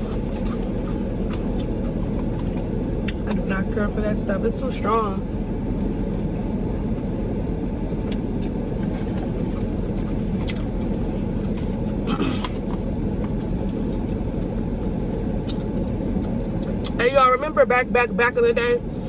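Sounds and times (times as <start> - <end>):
low rumble inside car cabin: 0.0 - 19.0.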